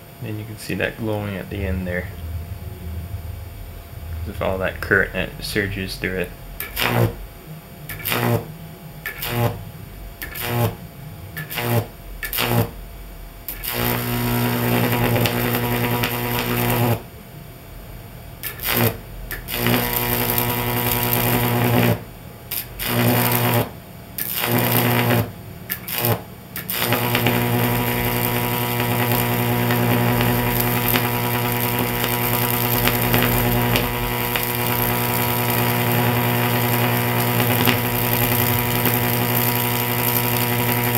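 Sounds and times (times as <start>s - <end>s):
high-voltage arc buzzing: 0.0s - 17.1s, 18.4s - 40.9s
low mains hum: 0.0s - 40.9s.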